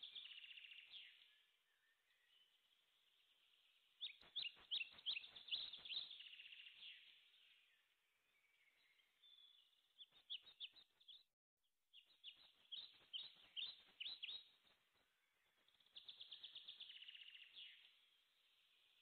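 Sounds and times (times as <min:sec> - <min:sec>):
bird singing chirps and trill: 0:00.0 - 0:11.2, 0:11.9 - 0:19.0.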